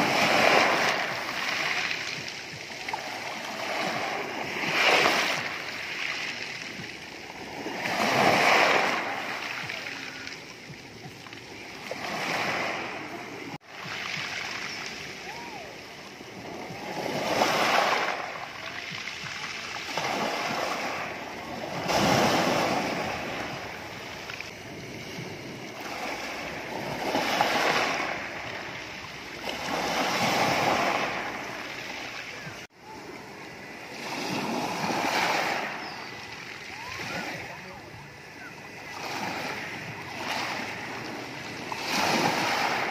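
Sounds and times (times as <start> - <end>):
waves washing over pebble beach: 0.0 - 42.9.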